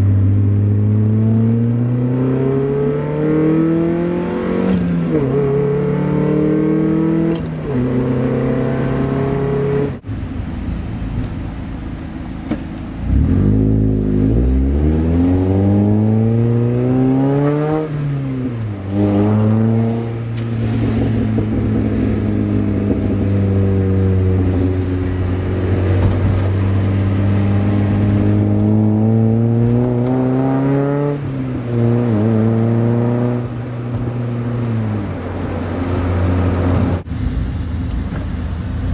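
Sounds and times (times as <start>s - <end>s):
car engine accelerating: 0.0s - 10.0s, 12.7s - 38.9s.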